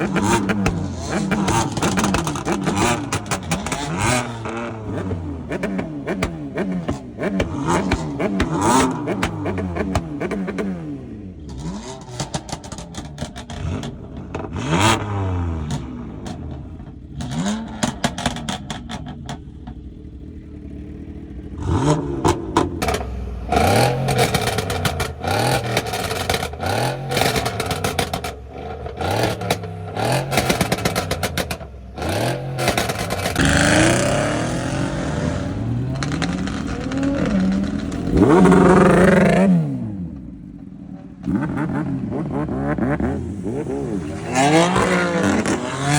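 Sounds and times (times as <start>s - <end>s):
exhaust crackles and pops: 0.0s - 10.9s, 11.5s - 42.6s
car engine revving: 0.0s - 45.9s.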